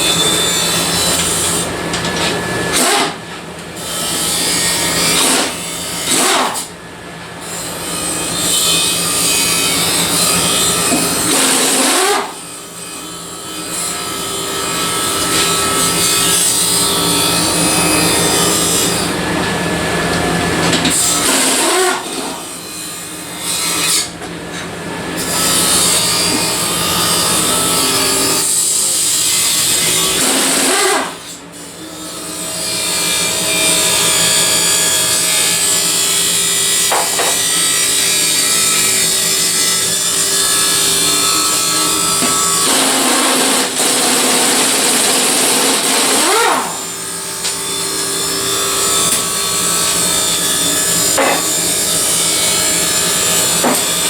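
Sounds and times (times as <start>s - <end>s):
power tool abrading sheet metal: 0.0s - 54.0s.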